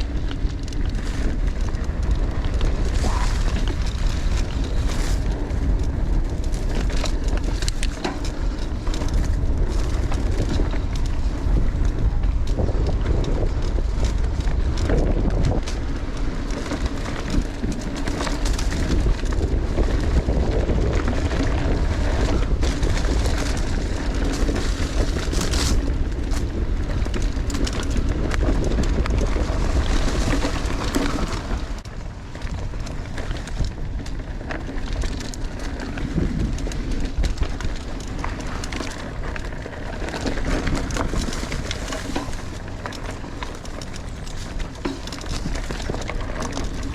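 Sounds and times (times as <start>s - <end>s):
bike rattling and knocking: 0.0s - 46.9s
wind and tyre rumble: 0.0s - 46.9s.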